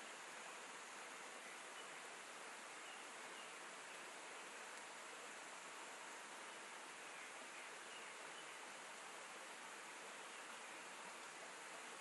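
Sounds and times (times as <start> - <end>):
stream water flowing over stones: 0.0 - 12.0.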